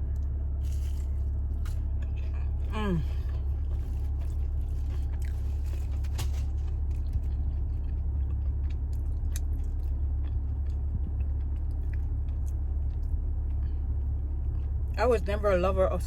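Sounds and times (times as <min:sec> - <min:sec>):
chewing crunchy food: 0:00.0 - 0:15.0
steady low hum: 0:00.0 - 0:16.0.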